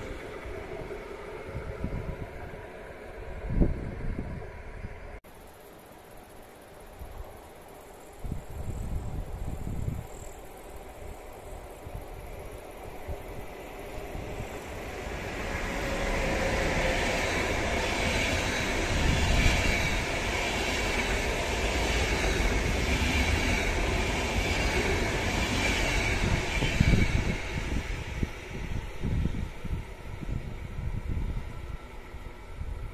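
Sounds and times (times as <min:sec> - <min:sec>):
train wheels rumbling on track: 0:00.0 - 0:05.2, 0:08.5 - 0:32.9.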